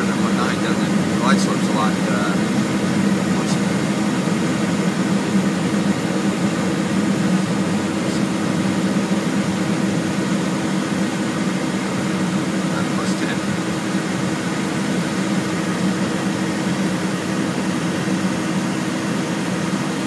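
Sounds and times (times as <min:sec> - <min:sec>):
jet cockpit airflow and engine noise: 0:00.0 - 0:20.0
steady low hum: 0:00.0 - 0:20.0.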